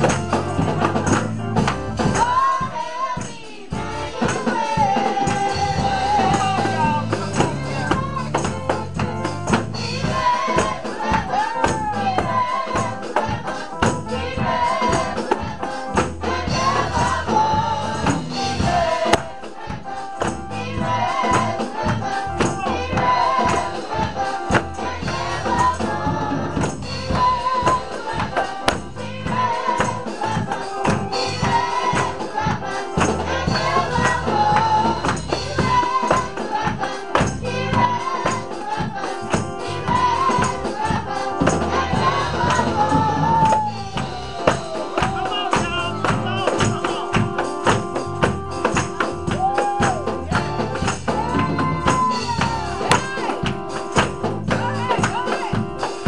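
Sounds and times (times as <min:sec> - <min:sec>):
backing accompaniment: 0:00.0 - 0:56.0
girls singing gospel song: 0:00.0 - 0:56.0
tambourine jingling: 0:00.0 - 0:56.0.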